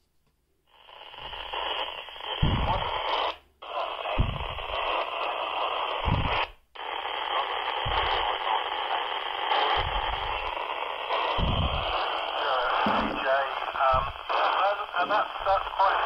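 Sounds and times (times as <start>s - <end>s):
radio static hiss: 0.7s - 16.0s.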